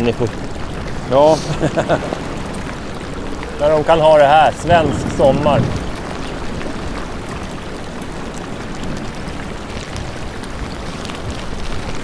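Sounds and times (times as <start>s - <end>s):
river rushing: 0.0s - 12.0s
wind: 0.0s - 12.0s.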